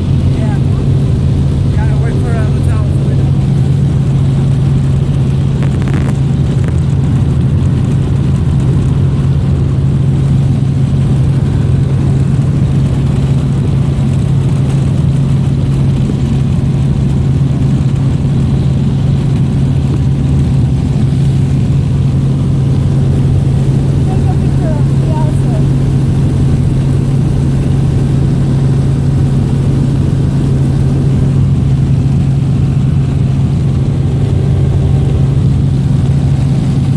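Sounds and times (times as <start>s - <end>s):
helicopter engine and rotors droning: 0.0s - 36.9s.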